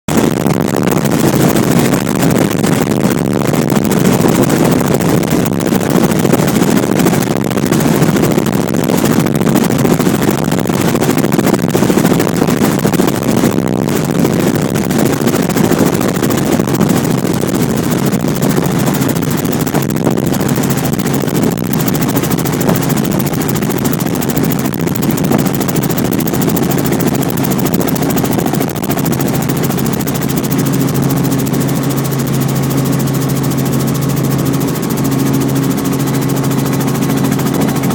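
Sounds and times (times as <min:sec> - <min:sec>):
helicopter rotor and engine: 0:00.1 - 0:37.9.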